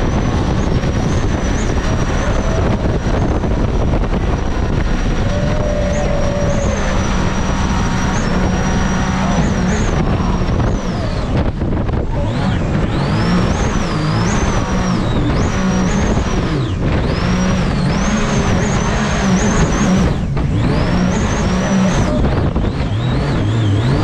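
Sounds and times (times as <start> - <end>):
jet boat engine with supercharger whine: 0.0 - 24.0.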